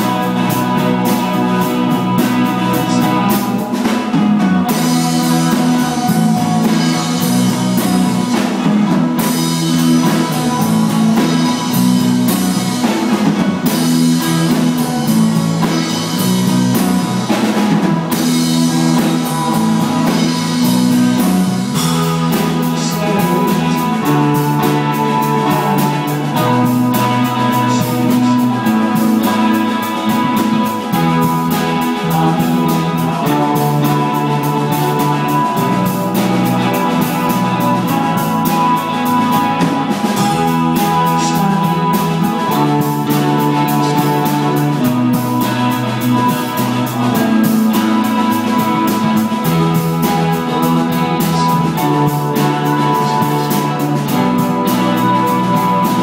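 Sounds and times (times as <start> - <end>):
drum kit: 0.0 - 56.0
electric bass: 0.0 - 56.0
electric guitars holding chords: 0.0 - 56.0.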